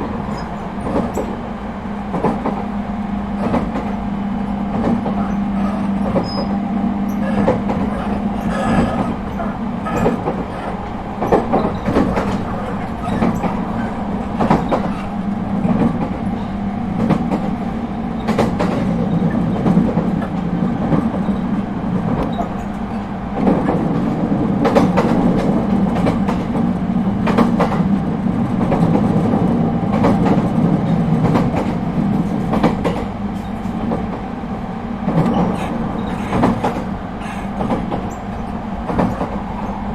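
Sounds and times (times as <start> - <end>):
train low hum: 0.0 - 39.9
wheels clicking over rail joints: 4.7 - 34.4, 35.0 - 39.9.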